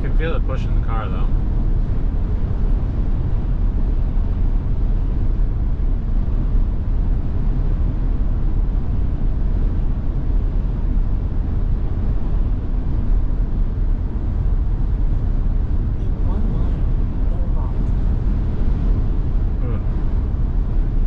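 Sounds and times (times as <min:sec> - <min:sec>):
wind buffeting car: 0:00.0 - 0:21.0.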